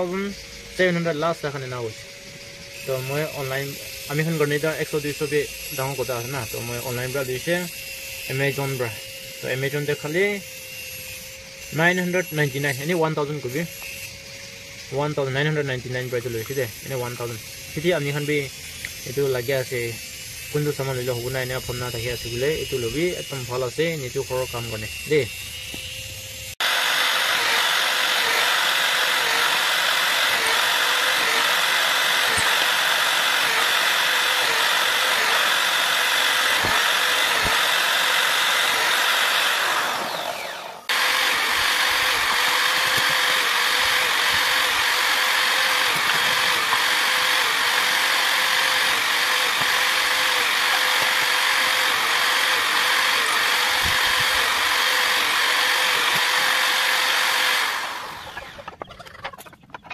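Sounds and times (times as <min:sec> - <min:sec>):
electric drill drilling wood: 0:00.0 - 0:58.8.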